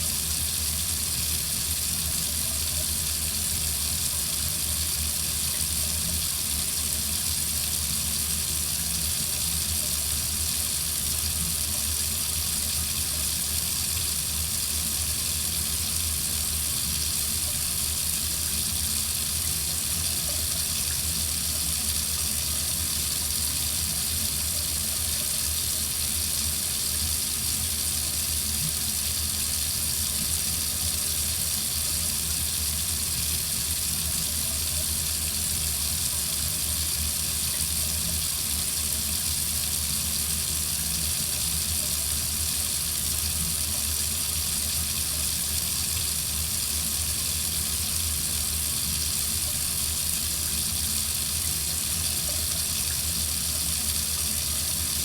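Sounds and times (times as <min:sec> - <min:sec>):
water running from faucet: 0:00.0 - 0:55.0.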